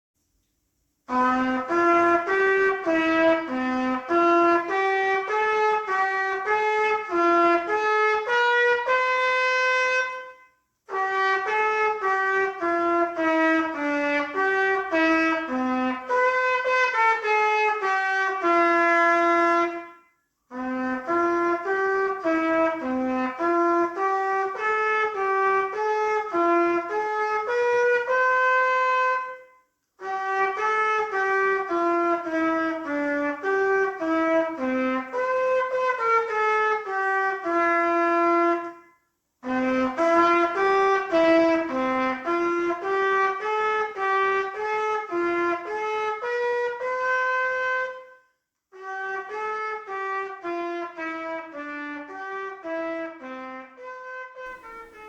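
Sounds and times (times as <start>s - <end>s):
solo trumpet hymn melody: 1.0s - 55.0s.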